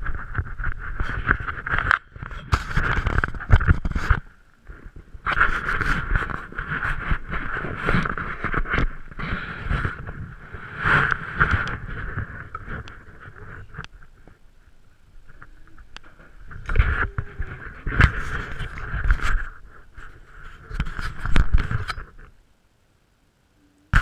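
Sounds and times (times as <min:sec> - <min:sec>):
fabric rubbing over microphone: 0:00.0 - 0:14.4, 0:15.2 - 0:22.2.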